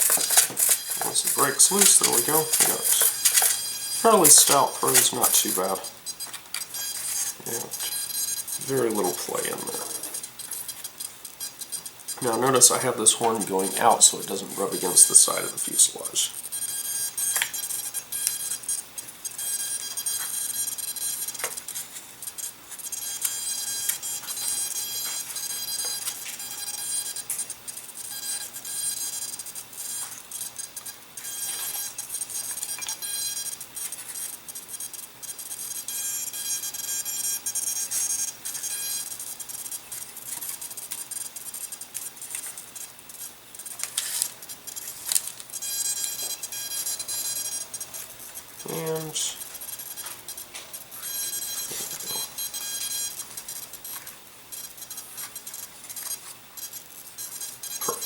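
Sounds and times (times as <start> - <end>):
servos whining: 0.0 - 34.8, 35.4 - 53.8.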